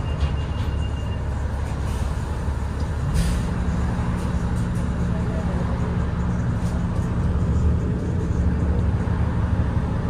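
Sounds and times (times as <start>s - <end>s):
bus drivetrain and road rumble: 0.0s - 10.0s.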